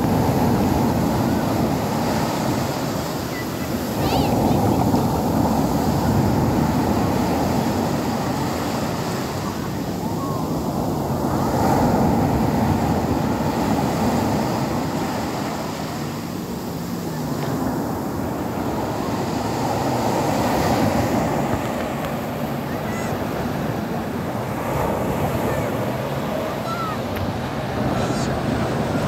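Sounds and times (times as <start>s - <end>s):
surf breaking on a beach: 0.0s - 29.0s.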